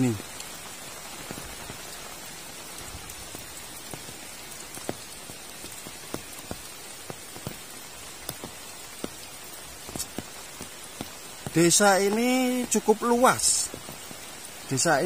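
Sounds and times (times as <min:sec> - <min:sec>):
close raindrops ticking: 0:00.0 - 0:15.0
heavy rain falling: 0:00.0 - 0:15.0.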